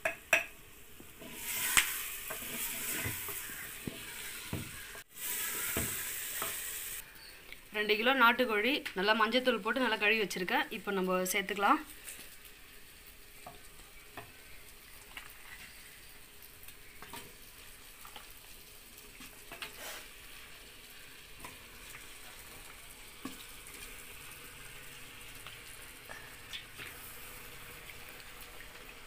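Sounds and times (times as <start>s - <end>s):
masala sizzling faintly: 0.0s - 29.0s.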